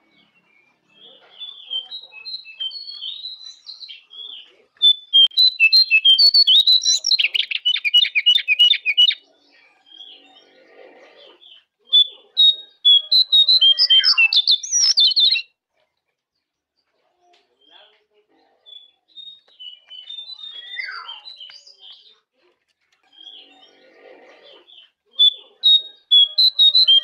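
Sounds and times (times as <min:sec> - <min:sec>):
songbird singing rapid chirps: 0:00.0 - 0:27.0.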